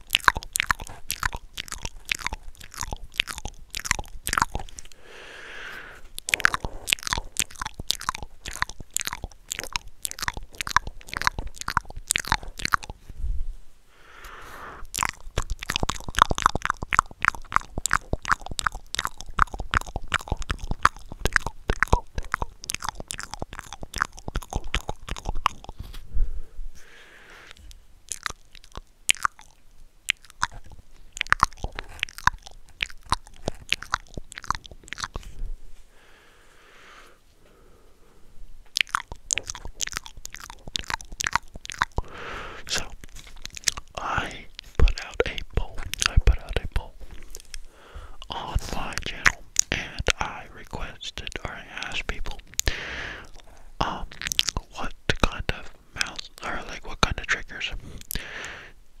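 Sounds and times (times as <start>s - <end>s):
mouth clicks and pops: 0.0s - 13.1s, 14.2s - 26.0s, 27.4s - 35.4s, 38.6s - 58.7s.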